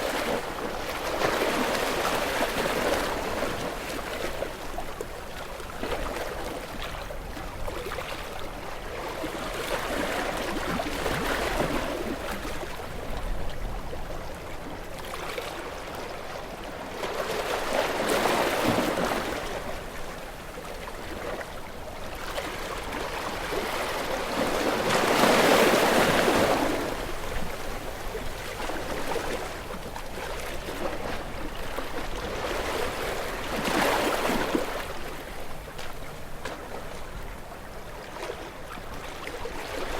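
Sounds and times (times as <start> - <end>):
ocean waves washing ashore: 0.0 - 39.9
waves breaking: 0.0 - 39.9.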